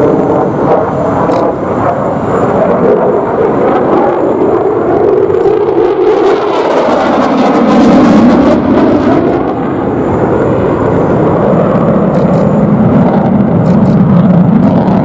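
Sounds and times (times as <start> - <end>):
fighter jet roaring: 0.0 - 15.0.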